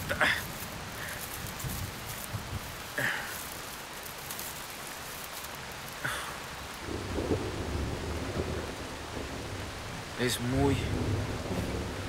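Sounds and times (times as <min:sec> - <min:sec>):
heavy rain on foliage: 0:00.0 - 0:12.0.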